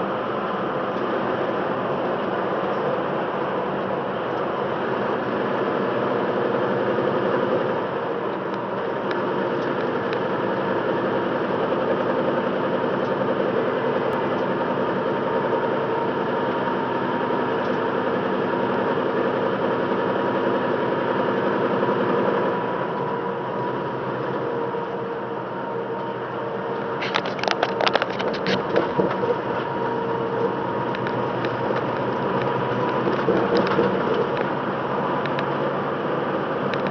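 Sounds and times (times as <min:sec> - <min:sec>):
road noise: 0:00.0 - 0:36.9
truck engine drone: 0:00.0 - 0:36.9.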